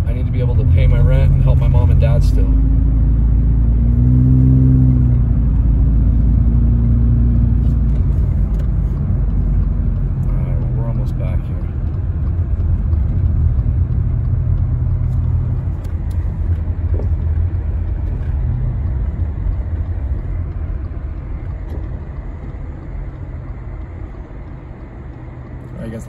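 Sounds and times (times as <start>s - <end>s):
truck engine and tyres rumbling: 0.0s - 26.0s.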